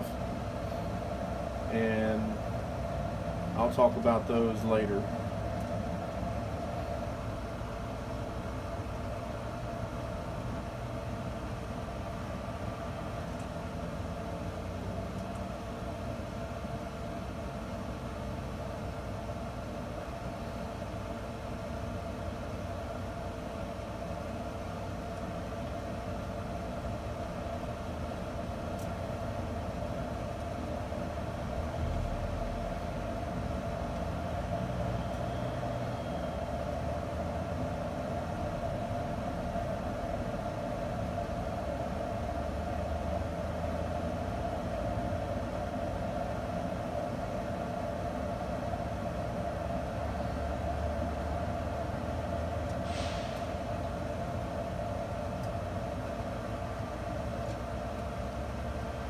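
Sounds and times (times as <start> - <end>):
grill fan humming: 0.0 - 59.0.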